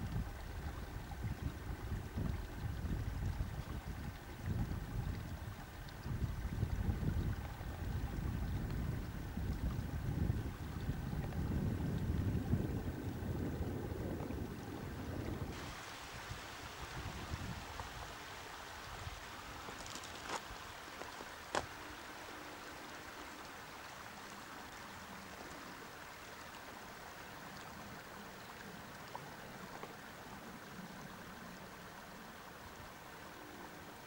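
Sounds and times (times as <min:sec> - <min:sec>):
stream water rushing: 0:00.0 - 0:34.0.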